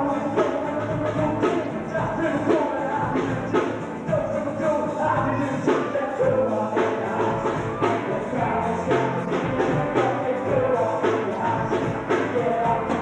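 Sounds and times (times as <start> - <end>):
live rap band playing: 0.0 - 13.0.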